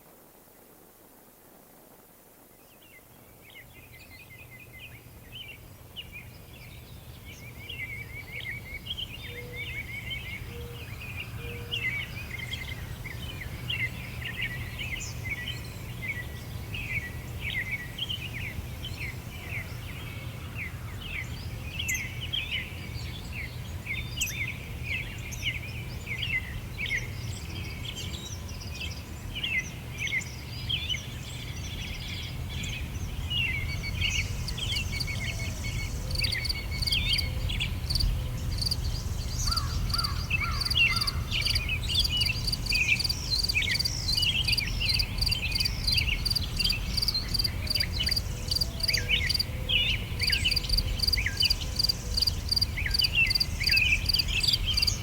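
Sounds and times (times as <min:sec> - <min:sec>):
small birds chirping chorus: 0:02.6 - 0:55.0.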